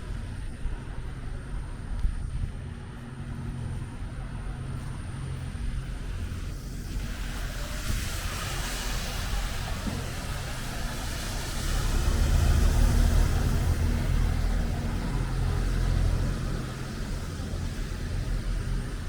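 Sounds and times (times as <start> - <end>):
hiss of rain and tyres: 0.0 - 19.0
vehicle engine running: 0.0 - 19.0.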